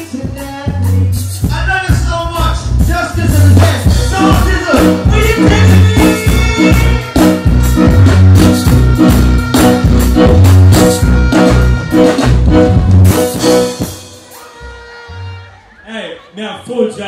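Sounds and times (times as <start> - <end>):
live band music with heavy bass: 0.0 - 17.0.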